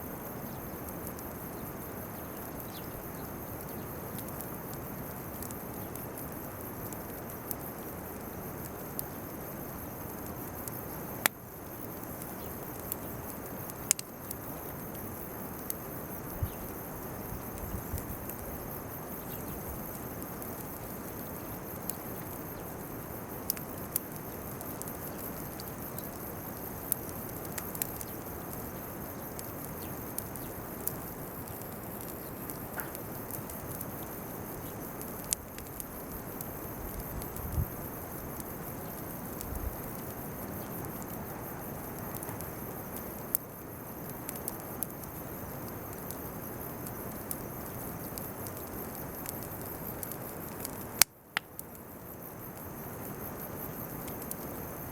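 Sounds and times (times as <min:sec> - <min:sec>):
bonfire hissing: 0:00.0 - 0:54.9
fire popping and crackling: 0:00.0 - 0:54.9
insects chirring: 0:00.0 - 0:54.9.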